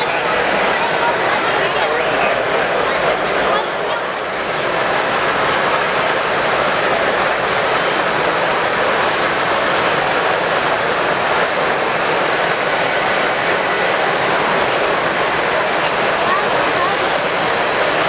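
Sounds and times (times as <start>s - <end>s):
crowd murmur: 0.0s - 18.0s.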